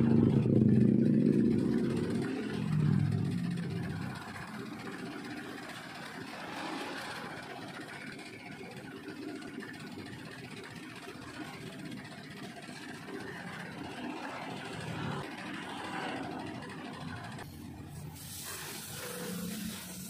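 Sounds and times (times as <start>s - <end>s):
road traffic engine noise: 0.0s - 20.0s.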